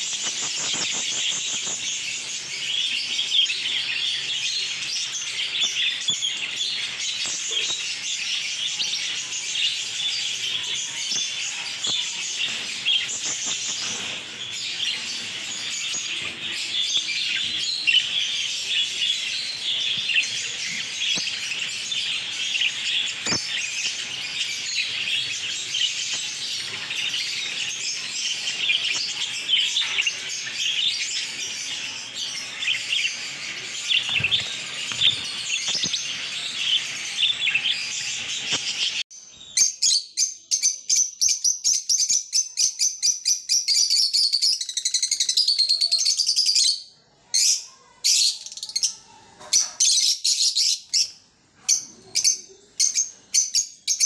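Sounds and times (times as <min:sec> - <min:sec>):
high bird chirps: 0:00.0 - 0:46.9
birds shrill twittering: 0:00.0 - 0:54.0.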